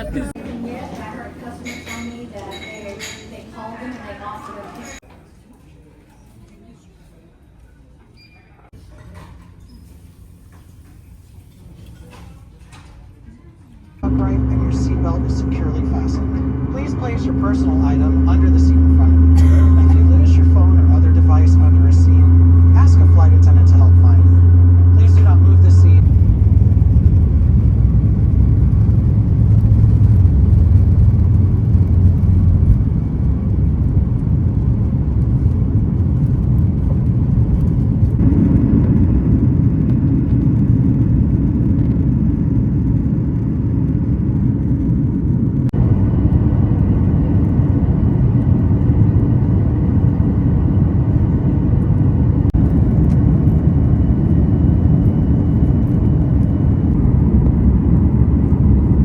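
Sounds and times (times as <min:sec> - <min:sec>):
jet engine cabin rumble: 0:00.0 - 0:02.4, 0:14.0 - 0:59.0.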